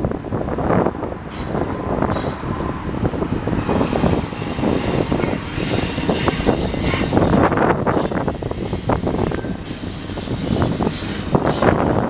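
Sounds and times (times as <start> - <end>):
freight train wheels rumbling: 0.0 - 12.0
train wheels clicking and clanking: 0.4 - 12.0.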